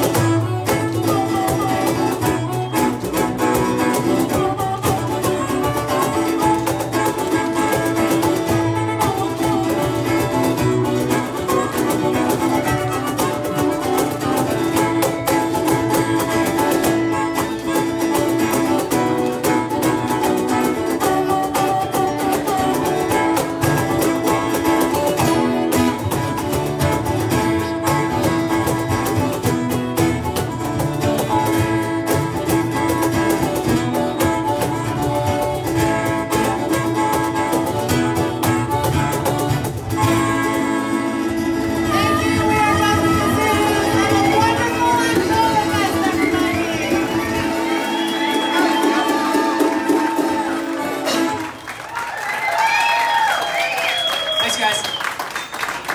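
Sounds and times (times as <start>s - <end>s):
drum kit: 0.0s - 51.7s
bass guitar: 0.0s - 54.4s
acoustic guitar: 0.0s - 55.9s.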